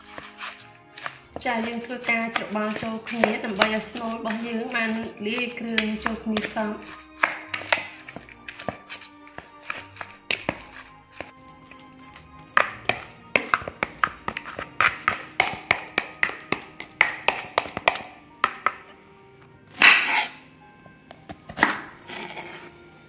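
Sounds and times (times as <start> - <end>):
knife chopping on wooden board: 0.0 - 18.9, 19.7 - 20.4, 21.3 - 22.0.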